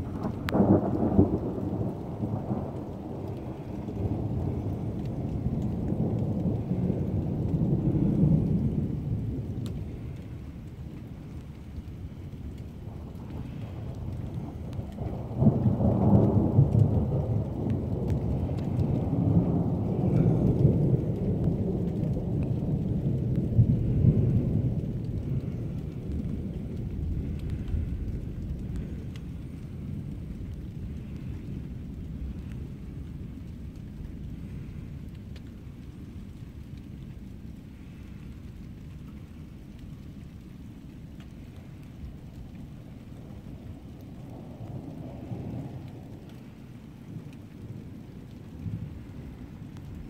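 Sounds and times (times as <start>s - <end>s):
thunder crack and rumble: 0.0s - 50.0s.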